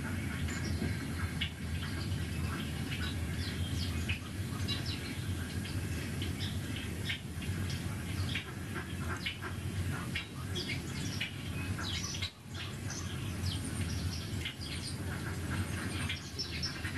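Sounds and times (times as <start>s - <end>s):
songbirds chirping: 0.0s - 16.9s
steady low hum: 0.0s - 16.9s.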